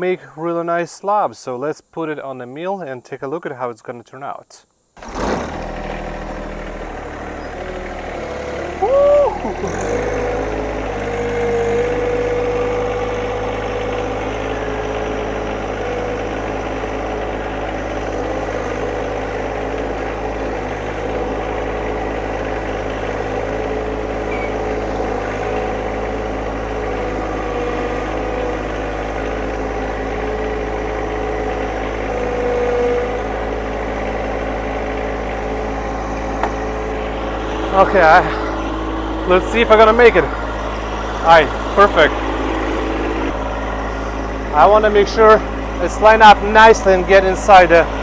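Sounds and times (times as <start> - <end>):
engine running steadily: 5.0 - 48.0.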